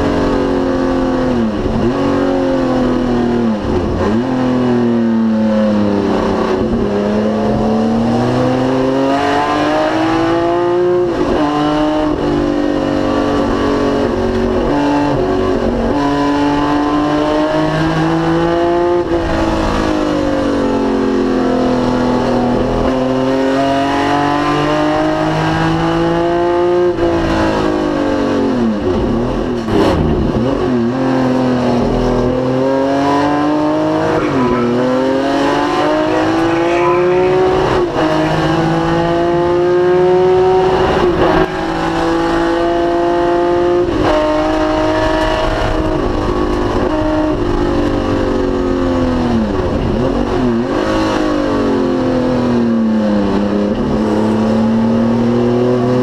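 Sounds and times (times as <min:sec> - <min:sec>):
engine blips on downshifts: 0:00.0 - 0:56.0
racing car engine accelerating: 0:00.0 - 0:56.0.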